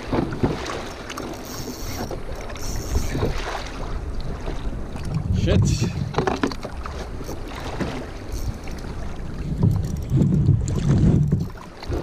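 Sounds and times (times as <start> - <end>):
water noise: 0.0 - 12.0
wind buffeting microphone: 2.0 - 12.0.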